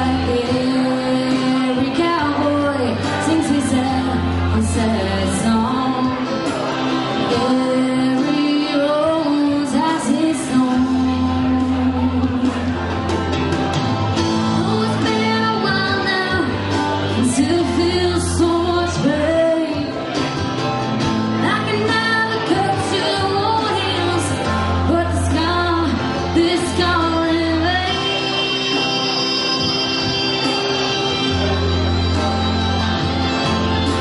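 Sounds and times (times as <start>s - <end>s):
woman singing into a microphone: 0.0s - 13.0s, 14.5s - 20.3s, 21.3s - 32.1s
electric guitar: 0.0s - 34.0s.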